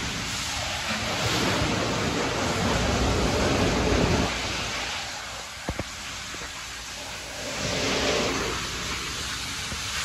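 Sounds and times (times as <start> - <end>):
water spray and spinning brushes: 0.0 - 10.0.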